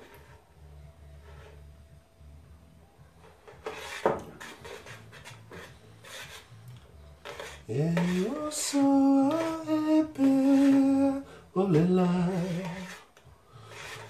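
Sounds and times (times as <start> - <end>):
metal spoon scraping a pan: 1.2 - 1.7, 3.2 - 14.0.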